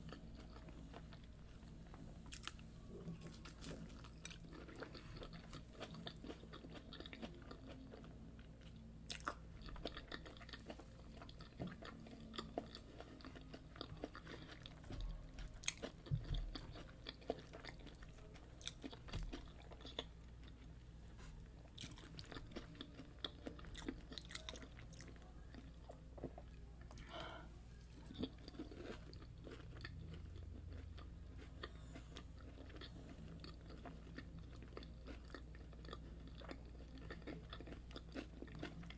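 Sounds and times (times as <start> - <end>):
crunchy chewing: 0.0 - 27.1, 27.9 - 38.9.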